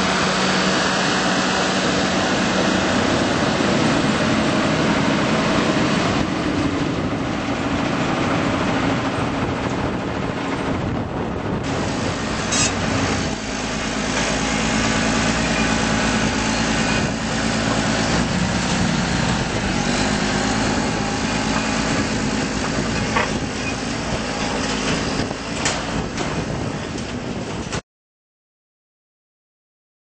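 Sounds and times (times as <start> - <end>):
diesel engine running: 0.0 - 27.8.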